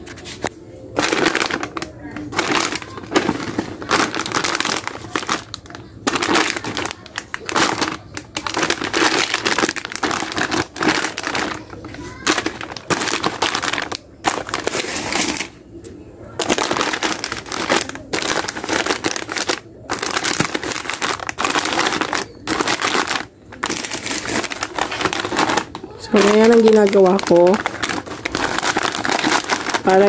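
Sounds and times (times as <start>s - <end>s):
plastic bags crinkling: 0.0s - 30.0s.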